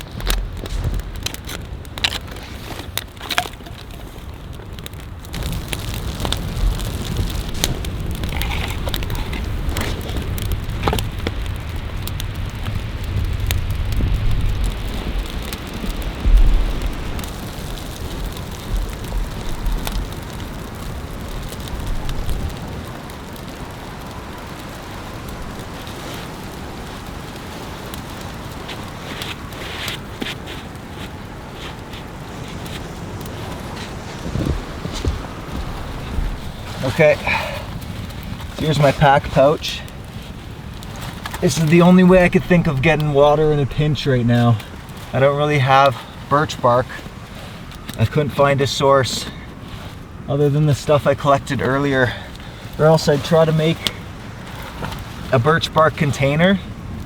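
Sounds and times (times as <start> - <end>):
kindling fire crackling: 0.0 - 57.0.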